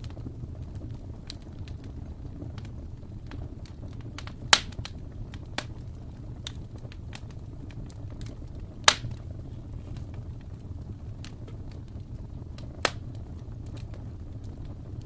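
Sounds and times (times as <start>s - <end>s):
loud sharp pops of fire: 0.0s - 15.0s
wood fire crackling: 0.0s - 15.0s.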